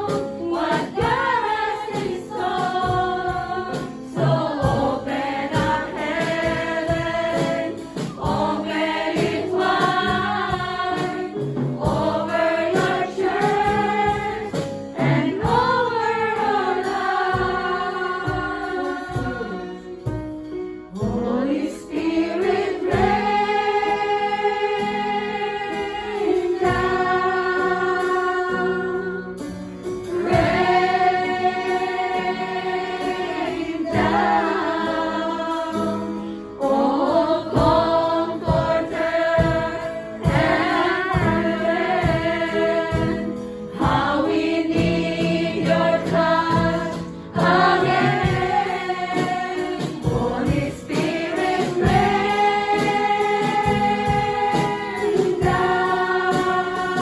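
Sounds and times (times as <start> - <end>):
choir singing gospel song: 0.0 - 20.1, 20.9 - 57.0
instrumental backing: 0.0 - 57.0.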